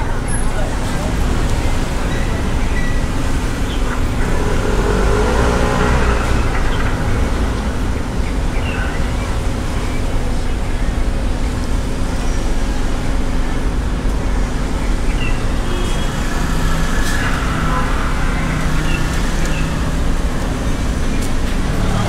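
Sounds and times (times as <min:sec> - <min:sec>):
faint voices of passers-by: 0:00.0 - 0:22.0
low street rumble: 0:00.0 - 0:22.0.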